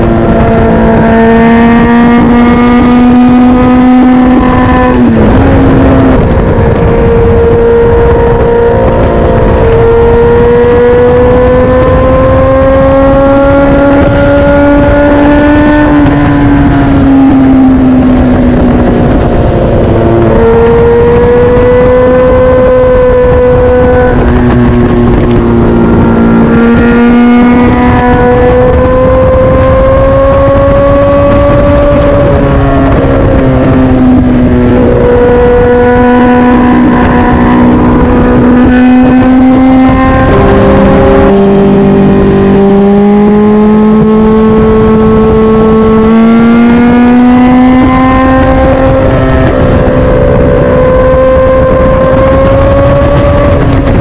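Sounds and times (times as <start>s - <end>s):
motorcycle engine at speed: 0.0s - 54.0s
steady rushing noise: 0.0s - 54.0s.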